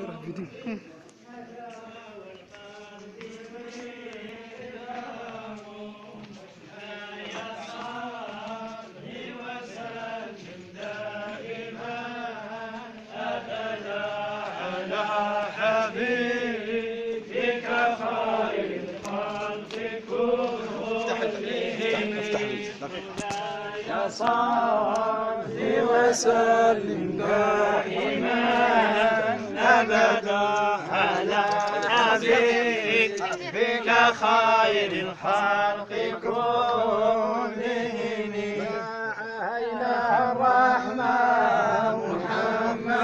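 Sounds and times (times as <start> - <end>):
men chanting in unison: 0.0 - 43.0.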